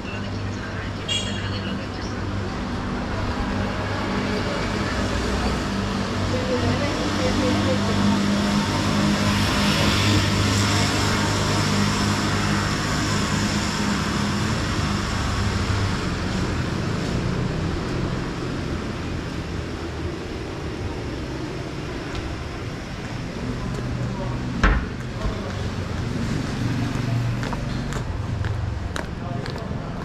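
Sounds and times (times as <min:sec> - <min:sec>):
road rumble: 0:00.0 - 0:30.0.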